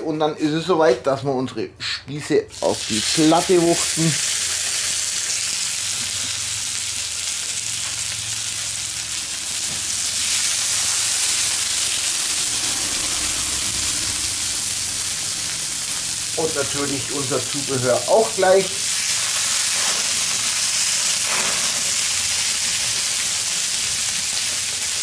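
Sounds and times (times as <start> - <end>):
skewers sizzling on hot plate: 2.5 - 25.0.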